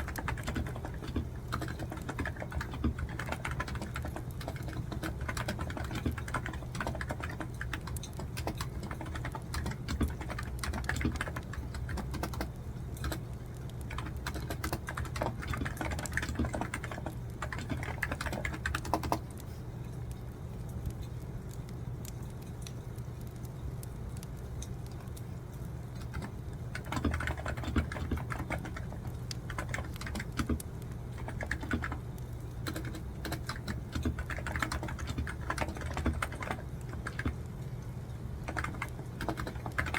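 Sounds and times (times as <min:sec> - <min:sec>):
typing on computer keyboard: 0:00.0 - 0:19.4, 0:26.0 - 0:37.5, 0:38.4 - 0:39.9
steady low hum: 0:00.0 - 0:39.9.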